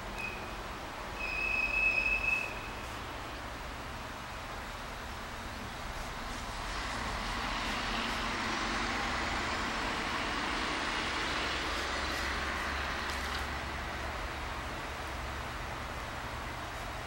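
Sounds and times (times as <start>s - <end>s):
locomotive diesel engine: 0.0s - 17.0s.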